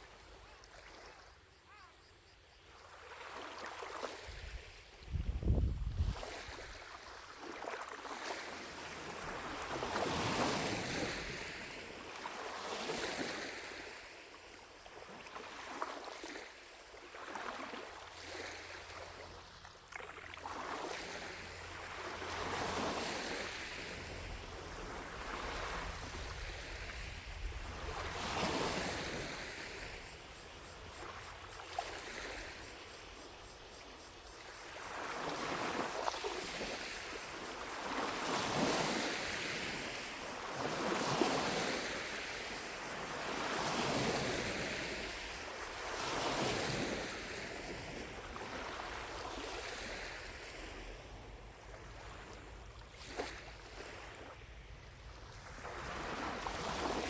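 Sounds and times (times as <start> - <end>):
waves lapping at shore: 0.0 - 2.0, 2.7 - 57.0
distant cicadas buzzing: 0.0 - 57.0.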